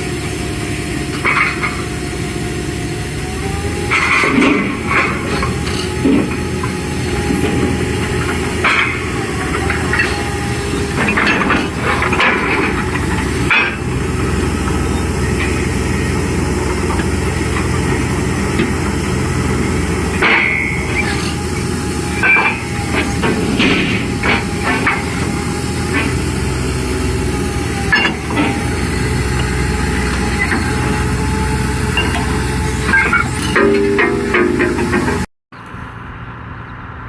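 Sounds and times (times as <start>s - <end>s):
drilling rig engine drone: 0.0s - 37.0s
metal clanking: 3.8s - 35.3s.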